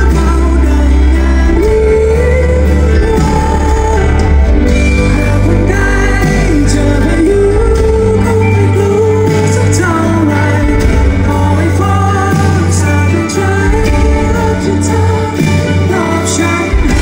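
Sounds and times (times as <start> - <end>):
live pop band: 0.0 - 17.0
man singing: 0.0 - 17.0.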